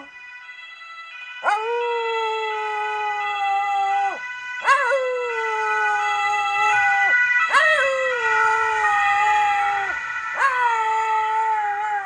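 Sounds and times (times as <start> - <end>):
wolf howling: 1.4 - 12.0.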